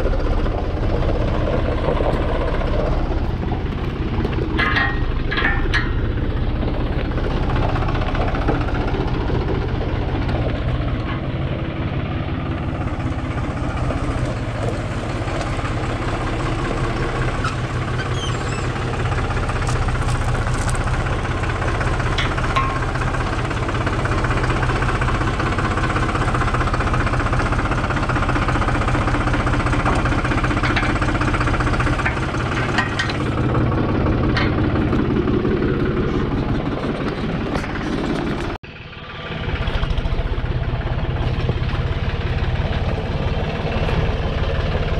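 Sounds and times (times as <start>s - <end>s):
tractor engine running at low revs: 0.0s - 44.9s.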